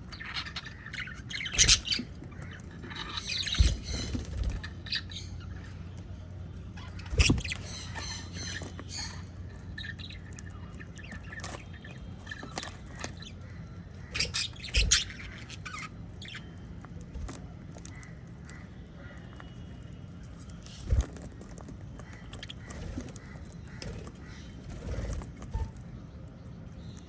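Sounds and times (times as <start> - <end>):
parrots chirping and squawking: 0.0 - 5.9, 6.5 - 27.0.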